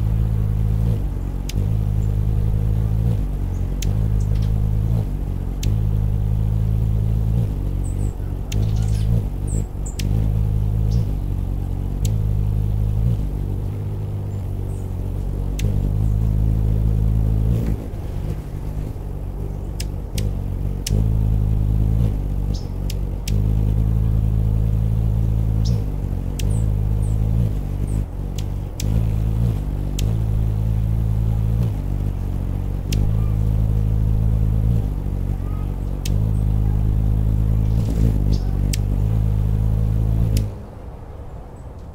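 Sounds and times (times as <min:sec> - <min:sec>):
faint sharp ticks: 0:00.0 - 0:40.6
hummingbird wings humming: 0:00.0 - 0:41.9.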